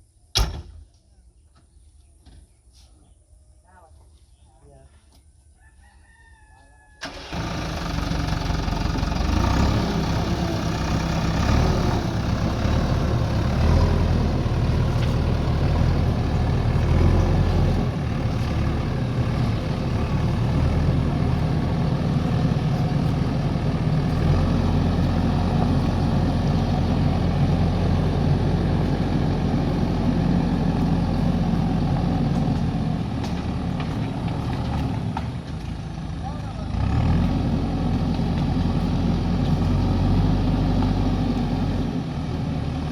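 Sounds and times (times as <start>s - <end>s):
diesel engine droning: 7.0s - 42.9s.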